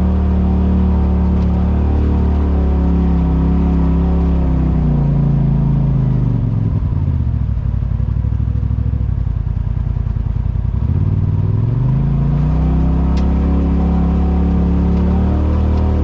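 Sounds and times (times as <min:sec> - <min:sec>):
engine chugging and revving: 0:00.0 - 0:16.0.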